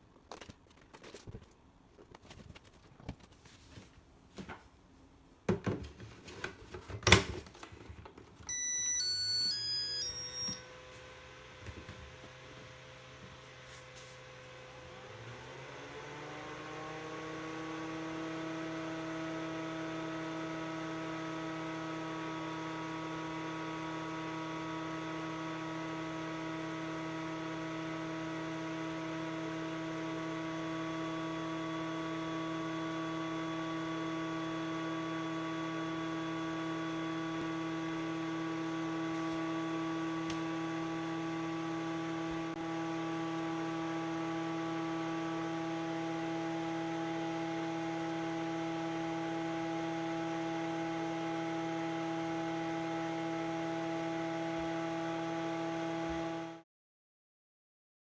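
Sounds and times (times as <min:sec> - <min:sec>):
battery charger cooling fan whirring: 0:05.5 - 0:56.6.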